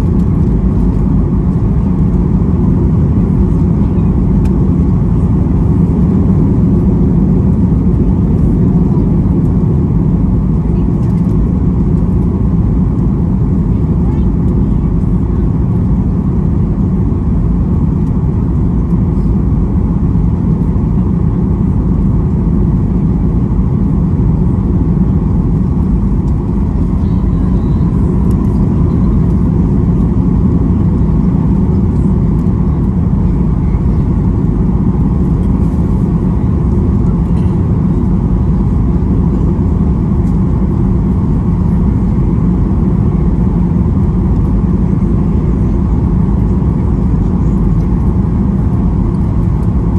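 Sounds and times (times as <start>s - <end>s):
airplane cabin rumble: 0.0s - 49.9s.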